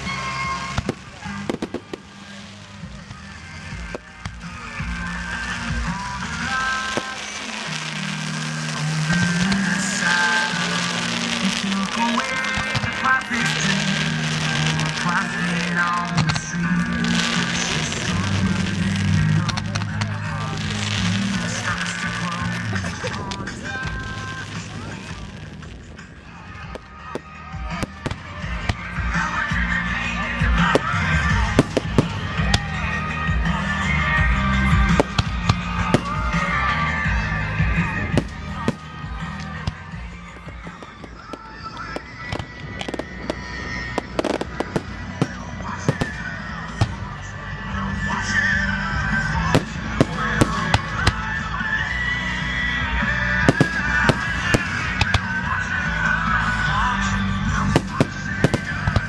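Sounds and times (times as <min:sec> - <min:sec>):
fireworks bangs: 0:00.0 - 0:47.3, 0:49.1 - 0:51.6, 0:52.8 - 0:55.6, 0:56.3 - 0:59.0
music with heavy bass: 0:00.0 - 0:59.0.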